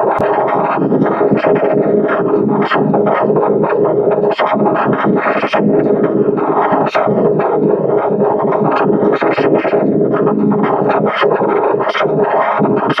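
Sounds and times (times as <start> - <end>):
stuttering synthesizer-like tone: 0.0 - 13.0.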